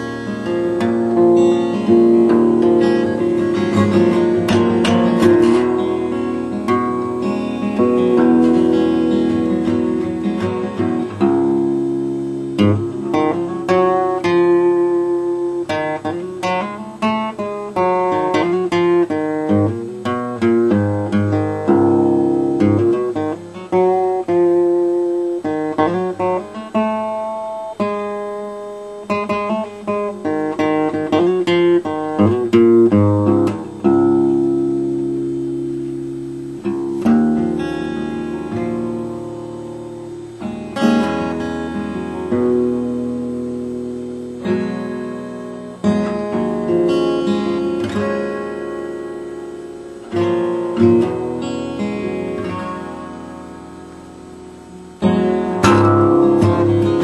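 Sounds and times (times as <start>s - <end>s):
acoustic guitar plucked notes and chords: 0.0s - 57.0s.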